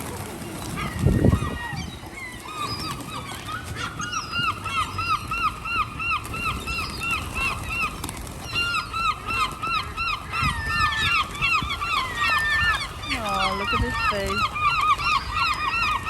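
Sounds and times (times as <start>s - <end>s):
flock of birds calling: 0.0s - 16.0s.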